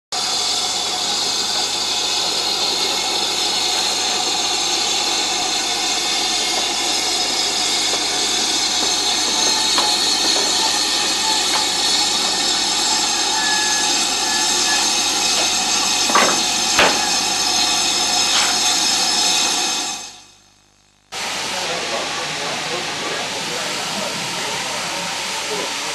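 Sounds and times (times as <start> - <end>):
steam hissing: 0.1 - 20.4, 21.1 - 25.9.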